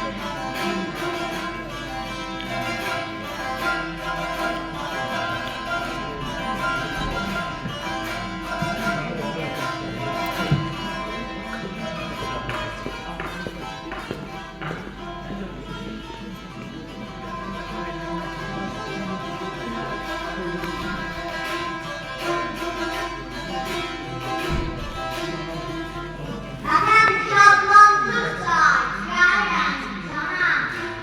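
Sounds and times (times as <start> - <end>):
plucked long-necked lute melody: 0.0 - 31.0.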